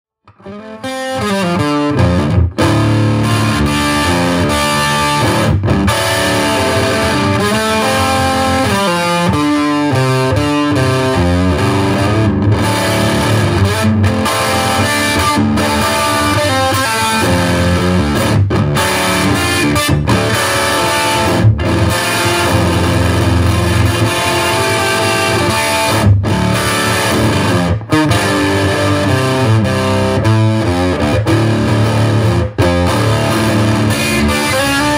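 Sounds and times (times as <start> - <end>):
electric guitar blues riff: 0.2 - 34.9.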